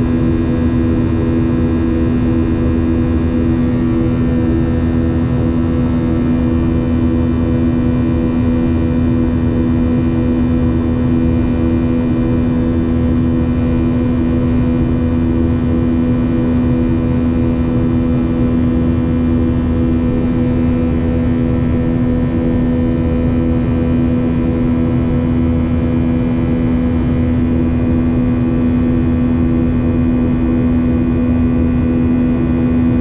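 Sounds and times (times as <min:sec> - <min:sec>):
jet engine drone in cabin: 0:00.0 - 0:33.0.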